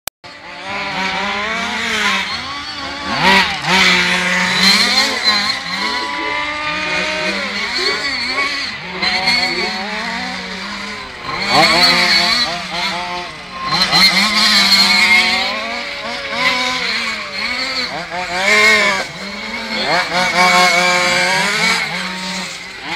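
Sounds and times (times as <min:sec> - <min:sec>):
model car motors revving: 0:00.3 - 0:22.9.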